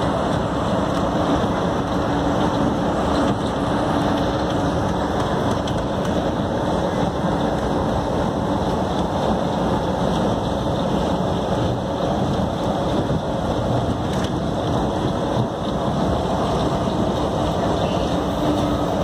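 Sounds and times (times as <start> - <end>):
train car rumbling and rolling: 0.0 - 19.0.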